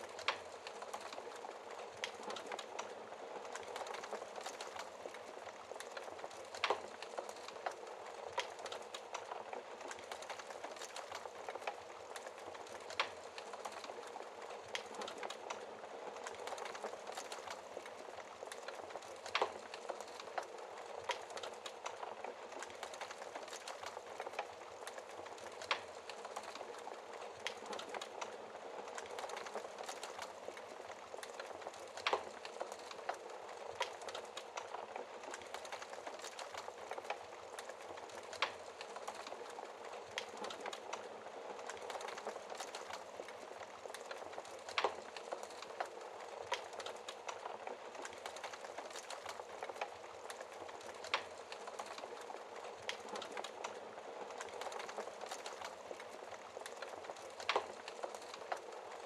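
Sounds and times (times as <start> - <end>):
logs crackling in a fireplace: 0.0 - 59.0.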